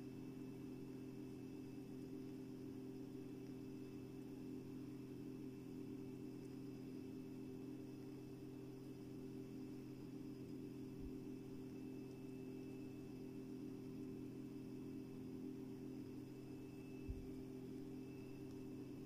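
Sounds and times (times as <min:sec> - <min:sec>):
electrical hum: 0:00.0 - 0:19.0
thin high whine: 0:03.2 - 0:19.0.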